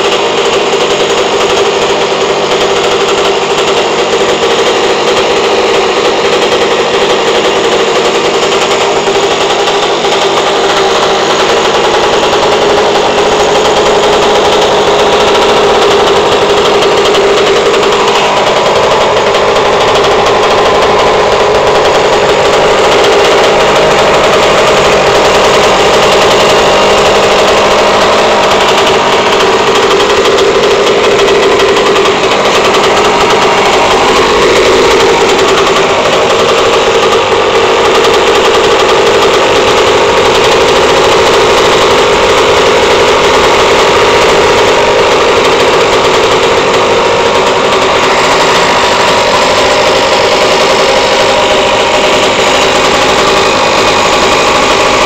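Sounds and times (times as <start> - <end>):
two-stroke engine running: 0.0 - 55.0.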